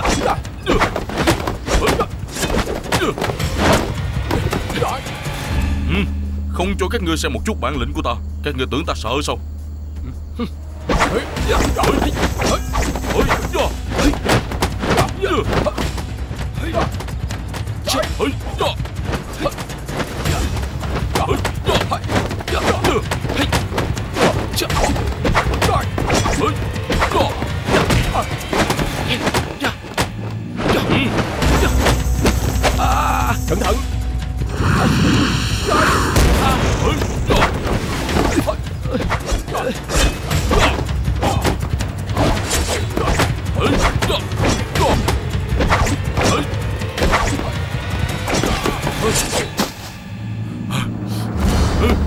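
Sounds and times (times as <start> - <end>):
dramatic background music: 0.0 - 52.0.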